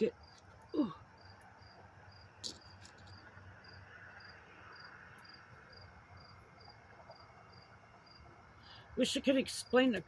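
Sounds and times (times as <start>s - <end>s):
cricket chirping: 0.0s - 10.0s.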